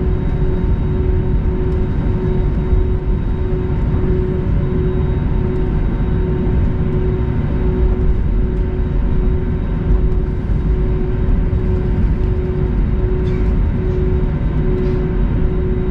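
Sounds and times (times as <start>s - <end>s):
airplane cabin rumble while taxiing: 0.0s - 15.9s.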